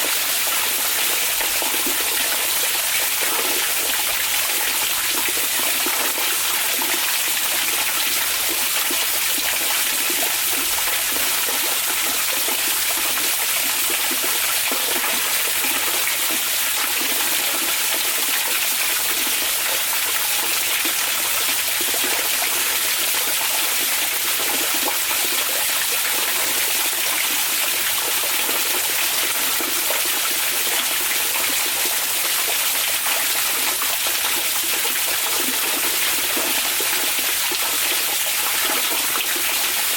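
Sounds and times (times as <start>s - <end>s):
water flowing steadily: 0.0s - 39.9s.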